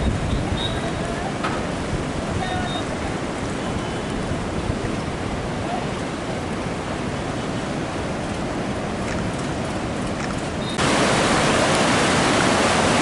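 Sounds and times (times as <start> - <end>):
roar of fast-flowing river: 0.0 - 13.0.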